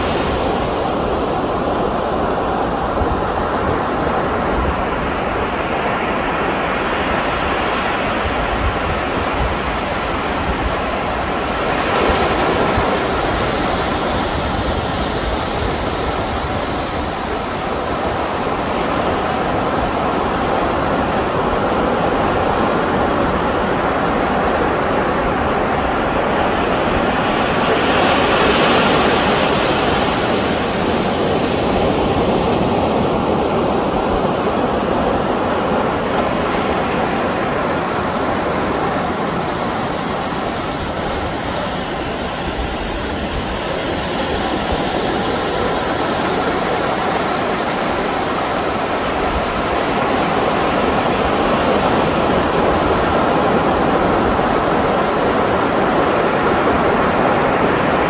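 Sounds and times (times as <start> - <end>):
ocean surf washing ashore: 0.0 - 58.0.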